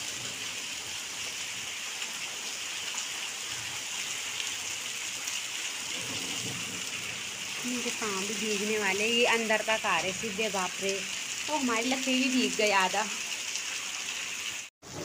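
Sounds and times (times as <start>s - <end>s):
heavy rain and hail on water: 0.0s - 15.0s.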